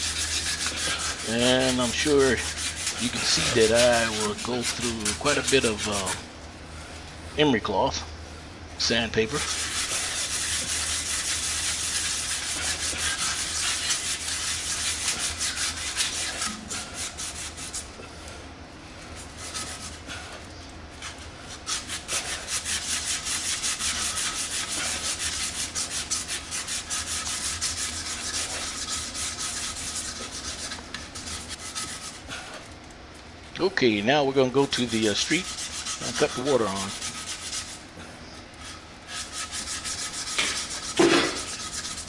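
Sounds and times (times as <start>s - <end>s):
cloth scrubbing copper pipe: 0.0s - 6.3s, 8.8s - 18.4s, 19.0s - 20.4s, 21.0s - 32.7s, 33.6s - 42.0s.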